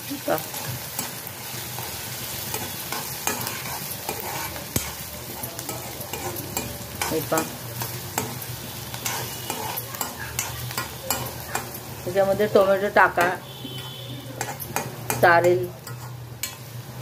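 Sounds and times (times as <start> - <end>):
onion sizzling in hot oil: 0.0 - 17.0
metal ladle scraping a pan: 2.4 - 11.8, 12.4 - 16.7.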